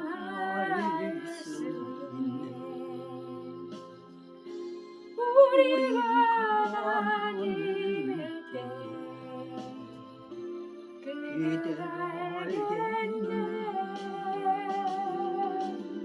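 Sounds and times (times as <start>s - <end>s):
sustained gospel chords: 0.0s - 16.0s
wavering melody: 0.0s - 16.0s.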